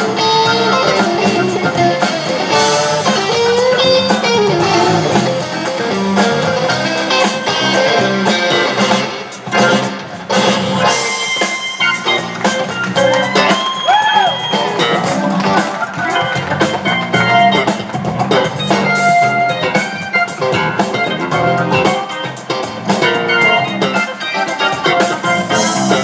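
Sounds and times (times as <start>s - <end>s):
bent gliding guitar notes: 0.0s - 13.8s, 14.5s - 26.0s
drum kit beat: 0.0s - 26.0s
electric guitar: 0.0s - 26.0s.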